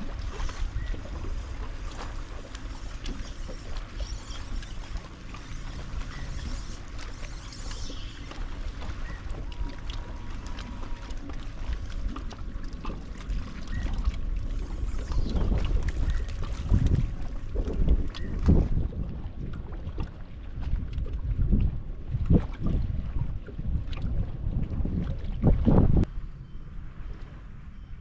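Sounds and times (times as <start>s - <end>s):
water lapping against boat hull: 0.0s - 28.0s
wind buffeting microphone: 3.1s - 28.0s.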